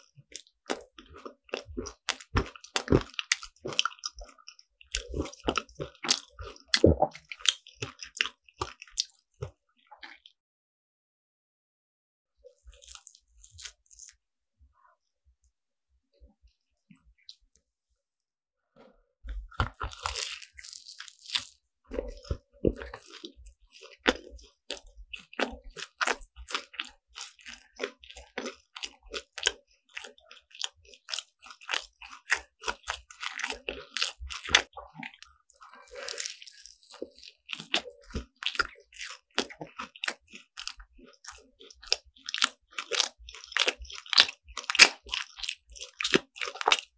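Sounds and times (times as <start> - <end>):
crunchy chewing: 0.0 - 10.3, 12.5 - 14.2, 19.3 - 46.9.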